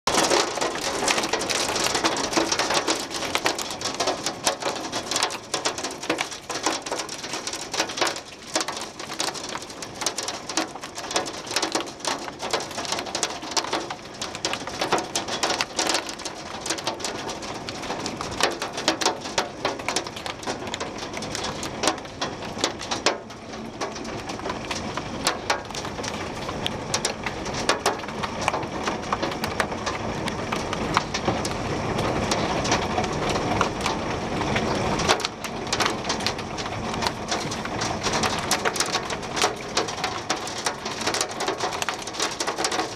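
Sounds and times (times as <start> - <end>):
hail and heavy rain pelting: 0.1 - 42.9
hailstones clicking on surfaces: 0.1 - 42.9.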